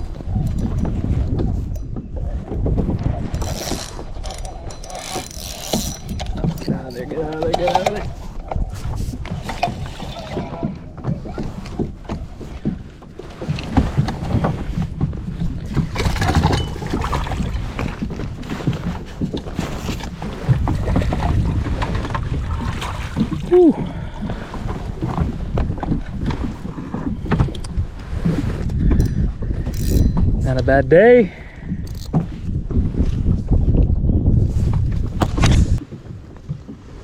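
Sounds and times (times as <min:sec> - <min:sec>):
gear and paddle bumping kayak hull: 0:00.0 - 0:37.0.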